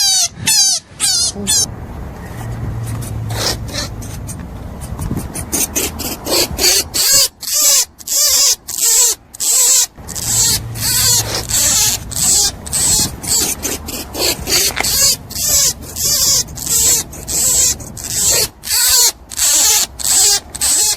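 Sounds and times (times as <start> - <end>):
rabbit squeaking: 0.0 - 20.9.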